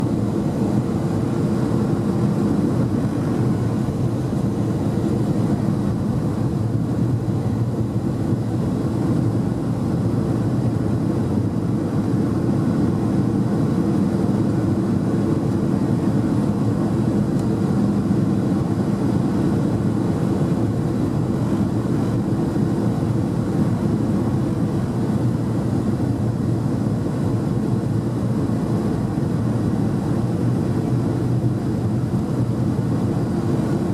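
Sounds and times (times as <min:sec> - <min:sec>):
airliner engine and airflow drone: 0:00.0 - 0:33.9.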